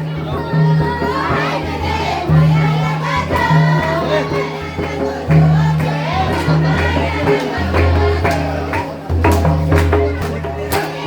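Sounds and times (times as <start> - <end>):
voices singing together: 0.0 - 11.0.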